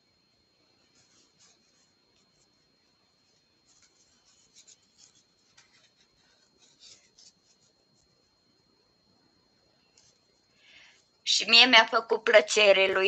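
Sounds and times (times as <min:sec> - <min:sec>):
faint high whine: 0:00.0 - 0:13.0
faint scratching and ticking: 0:00.5 - 0:11.2.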